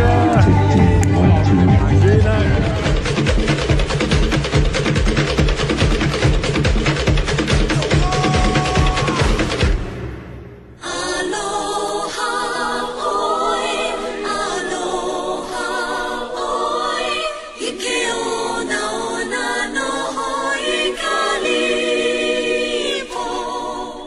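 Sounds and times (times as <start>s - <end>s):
choir singing in harmony: 0.0s - 5.5s, 7.9s - 24.0s.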